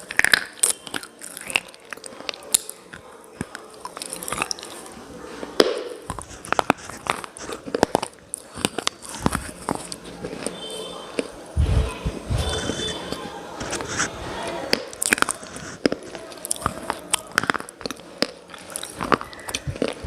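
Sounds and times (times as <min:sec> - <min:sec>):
person chewing brittle clay: 0:00.0 - 0:11.4, 0:12.4 - 0:20.0.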